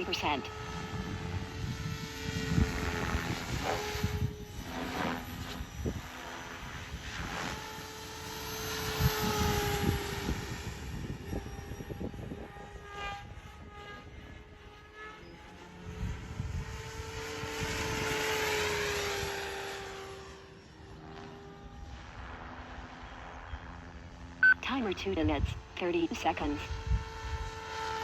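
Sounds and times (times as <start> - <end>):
rc helicopter motor whine: 0.0 - 24.4, 26.7 - 28.0.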